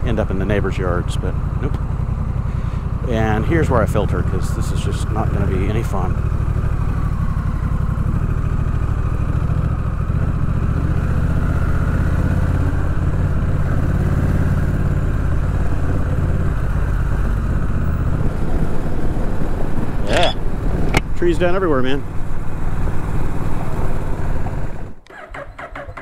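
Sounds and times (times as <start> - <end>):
motorcycle engine running at low revs: 0.0 - 26.0.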